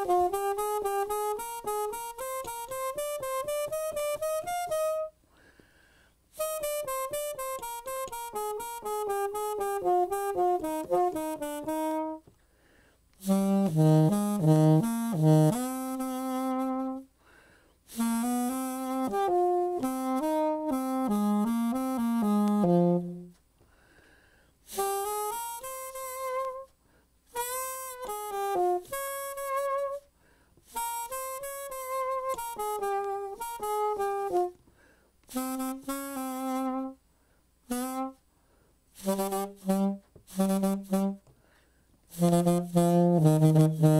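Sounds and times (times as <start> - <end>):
muted saxophone playing scales: 0.0 - 5.5, 6.3 - 23.9, 24.6 - 37.0, 37.6 - 38.3, 38.9 - 43.9.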